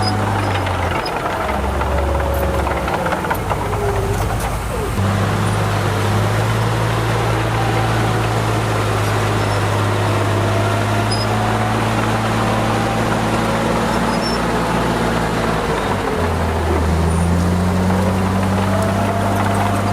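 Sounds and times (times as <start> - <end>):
diesel engine droning: 0.0 - 19.9.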